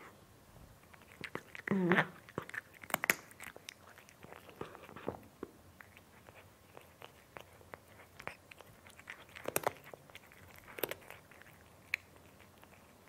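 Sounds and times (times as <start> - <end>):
cat crunching food: 0.8 - 13.0.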